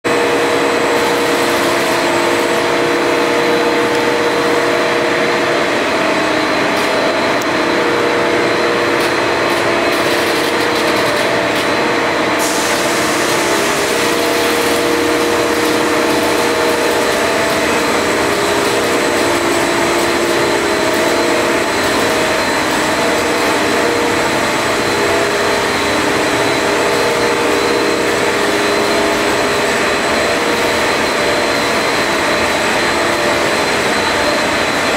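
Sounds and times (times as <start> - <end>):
machine humming: 0.1 - 34.9
machine whirring and hissing: 0.1 - 34.9.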